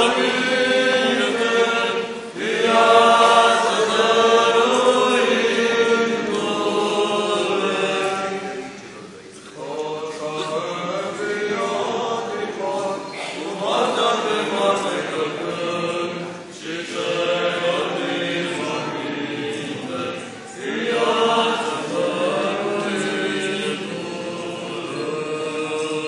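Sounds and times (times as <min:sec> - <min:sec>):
voices singing liturgical chant: 0:00.0 - 0:26.0.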